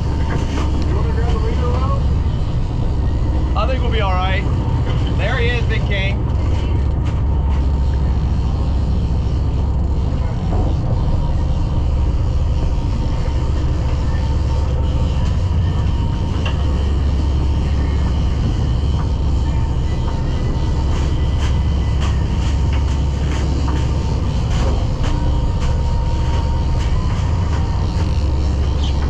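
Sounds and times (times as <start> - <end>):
boat engine rumbling: 0.0 - 29.0
faint engine whine: 0.0 - 29.0.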